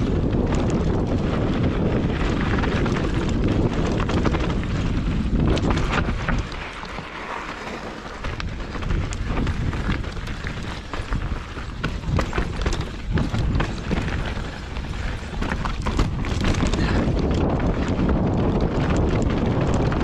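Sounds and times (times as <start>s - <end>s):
bike rattling over rocks: 0.0s - 20.0s
wind on microphone: 0.0s - 20.0s.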